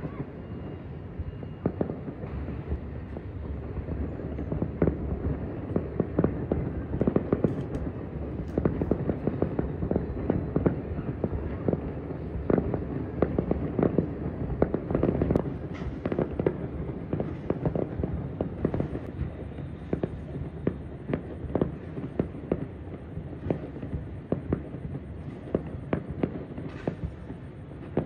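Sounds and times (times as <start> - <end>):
rumble of firework booms: 1.2 - 28.0
sharp firework pops: 1.6 - 28.0.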